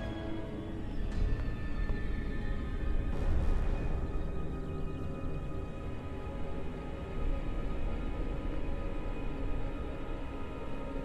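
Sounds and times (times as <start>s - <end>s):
film score held tones: 0.0s - 11.0s.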